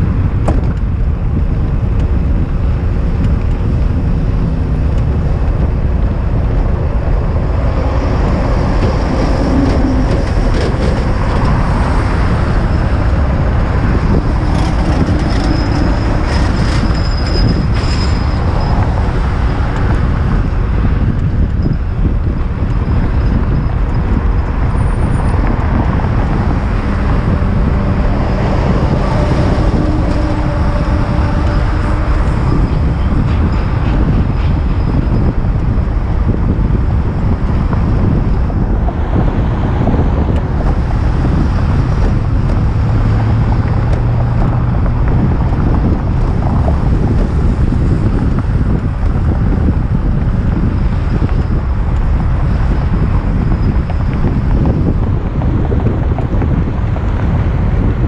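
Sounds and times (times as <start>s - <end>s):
car traffic passing: 0.0s - 58.0s
road noise: 0.0s - 58.0s
wind rush on microphone: 0.0s - 58.0s.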